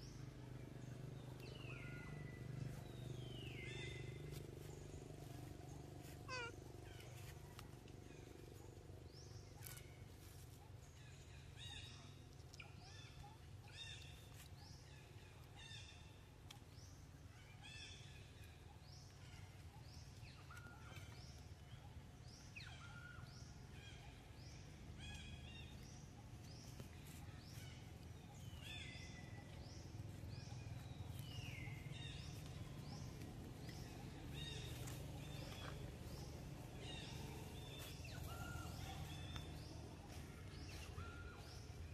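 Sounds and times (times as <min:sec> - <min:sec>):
birds chirping: 0:00.0 - 0:41.9
low steady rumble: 0:00.0 - 0:41.9.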